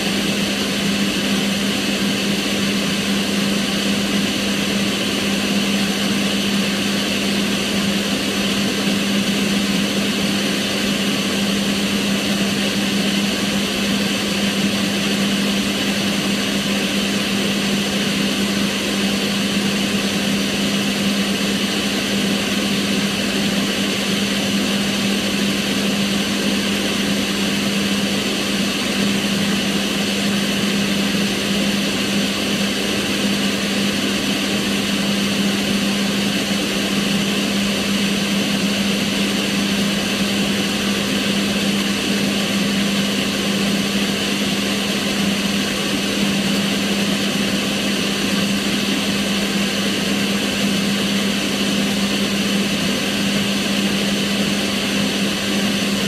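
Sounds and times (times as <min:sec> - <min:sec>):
range hood fan running: 0:00.0 - 0:56.0.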